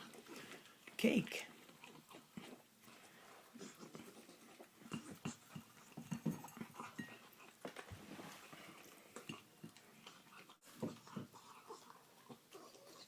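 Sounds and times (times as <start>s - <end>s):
puppy chewing and mouth smacking: 0.0s - 13.0s.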